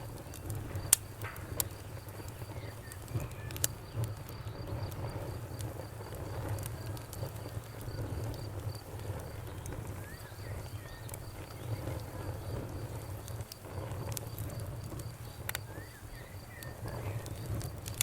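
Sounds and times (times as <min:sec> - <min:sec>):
campfire crackling: 0:00.0 - 0:18.0
flames rumbling: 0:00.0 - 0:18.0.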